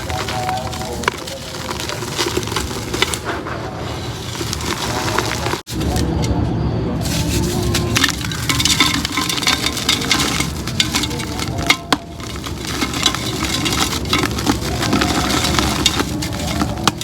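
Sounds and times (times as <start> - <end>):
concrete crunching and crackling: 0.0 - 6.1, 7.0 - 17.0.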